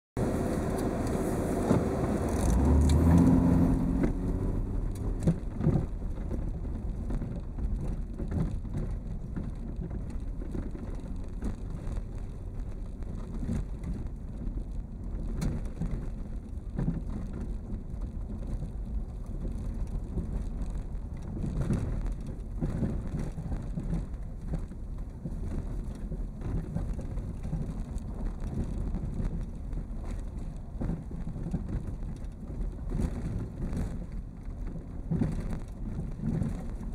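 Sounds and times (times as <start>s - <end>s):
tyre and road noise: 0.2s - 36.9s
vehicle engine rumble: 0.2s - 36.9s.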